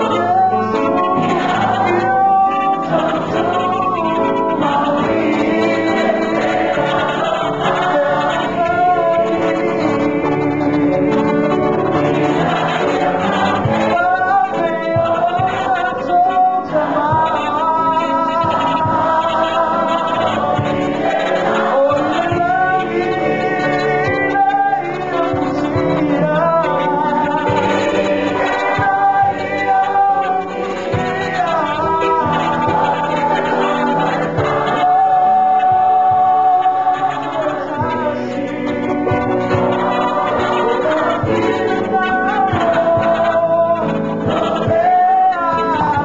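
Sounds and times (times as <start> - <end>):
choir singing in harmony: 0.0 - 46.0.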